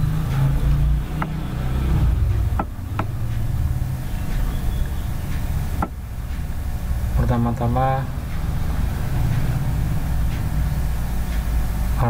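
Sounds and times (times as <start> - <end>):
low rumble background noise: 0.0 - 12.0.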